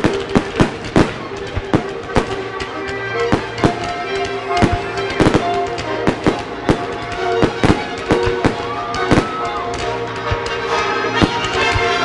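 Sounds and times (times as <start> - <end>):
fireworks bursting: 0.0 - 12.0
music with held notes: 0.0 - 12.0.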